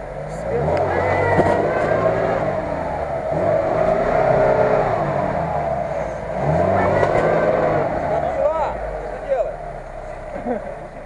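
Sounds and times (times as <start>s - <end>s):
car churning through mud: 0.0s - 11.0s
car engine revving: 0.0s - 11.0s.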